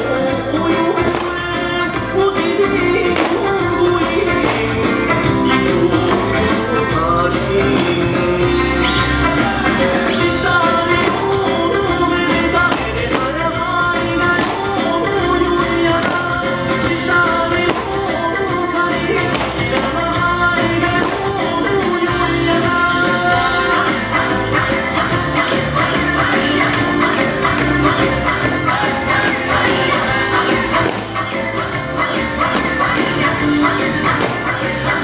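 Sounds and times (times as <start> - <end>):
song with singing over sound system: 0.0 - 35.0.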